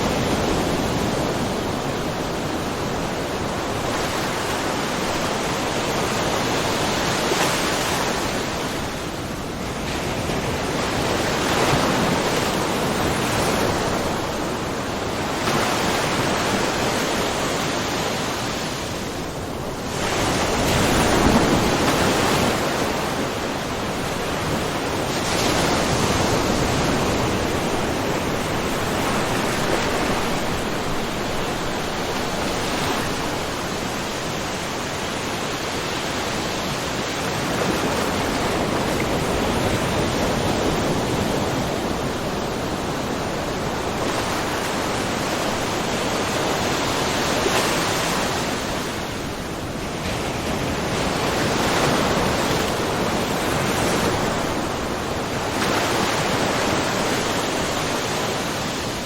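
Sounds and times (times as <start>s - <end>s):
waves breaking on rocks: 9.7s - 59.0s.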